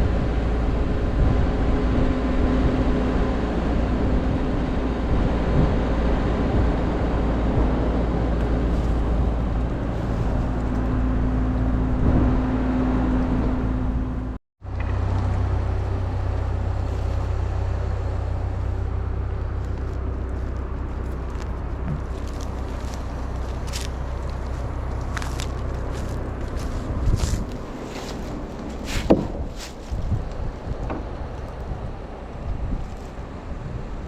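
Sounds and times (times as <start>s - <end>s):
moving vehicle engine and road noise: 0.0s - 34.0s.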